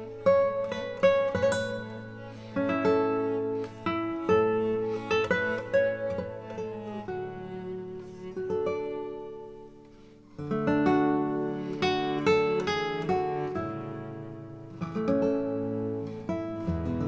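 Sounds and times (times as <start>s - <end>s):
acoustic guitar strumming and plucking: 0.0s - 17.0s.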